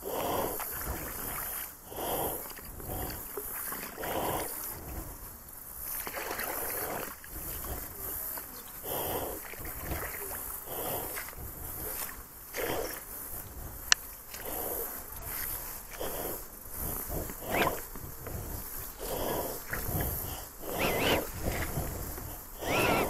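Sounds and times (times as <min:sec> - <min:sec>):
paddle strokes swishing water: 0:00.0 - 0:23.0.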